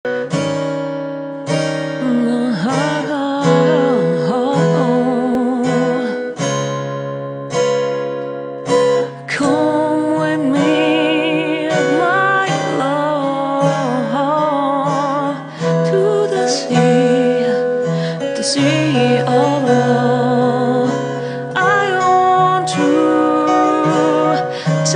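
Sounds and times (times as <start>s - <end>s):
strummed acoustic guitar: 0.1s - 24.9s
wordless vocal melody: 1.8s - 6.4s, 8.8s - 24.9s.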